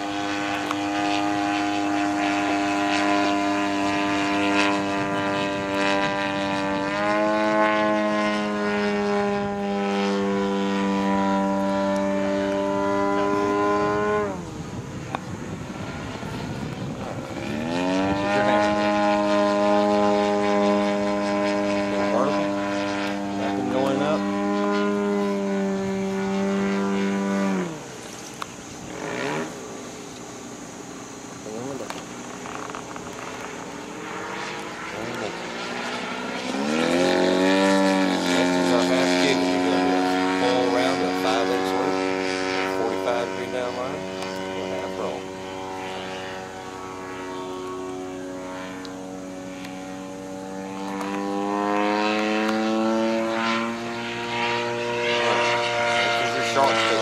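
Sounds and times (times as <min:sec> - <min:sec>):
model airplane motor and propeller: 0:00.0 - 0:57.0.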